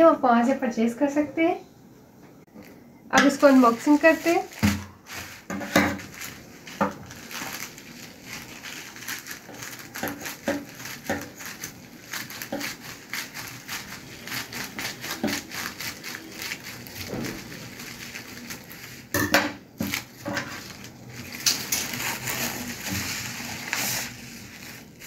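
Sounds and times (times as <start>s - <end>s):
scissors cutting plastic: 3.3s - 25.0s
plastic mailer crinkling: 3.4s - 25.0s.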